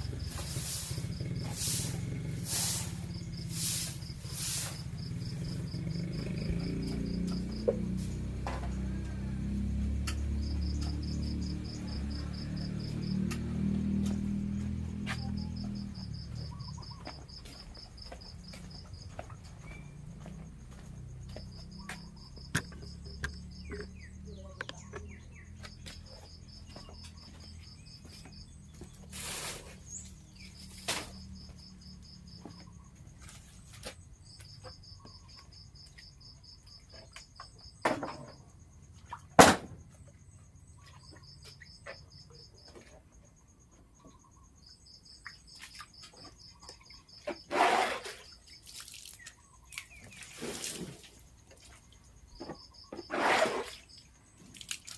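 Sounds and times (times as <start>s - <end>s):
insects trilling: 0.0s - 39.1s, 39.9s - 54.9s.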